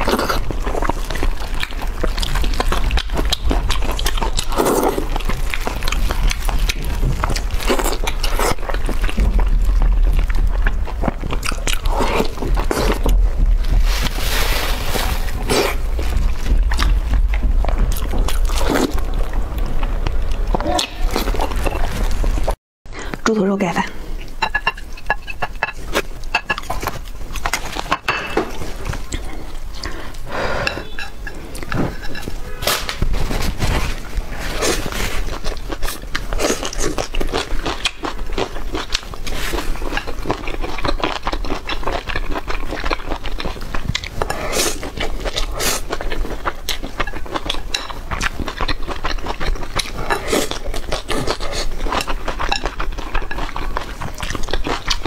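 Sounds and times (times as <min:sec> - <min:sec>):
people chewing and smacking: 0:00.0 - 0:23.2, 0:24.1 - 0:55.0.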